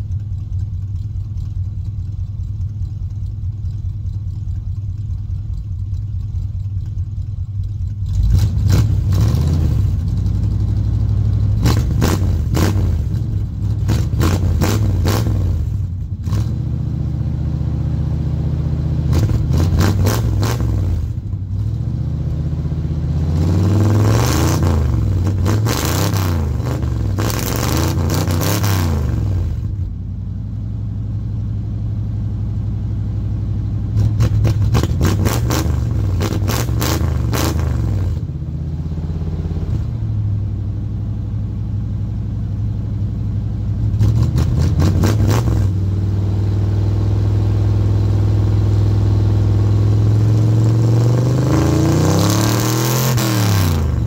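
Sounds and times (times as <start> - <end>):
engine idling and revving: 0.0 - 54.0.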